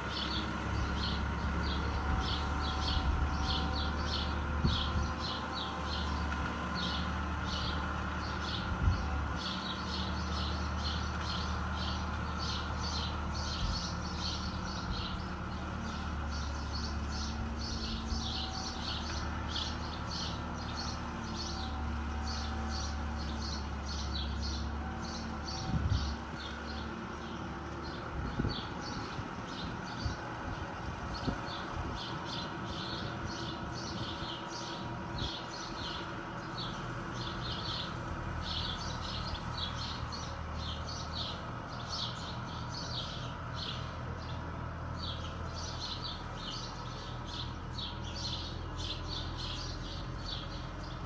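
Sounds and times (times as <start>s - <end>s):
distant tractor droning: 0.0s - 51.0s
small birds chirping: 0.0s - 51.0s.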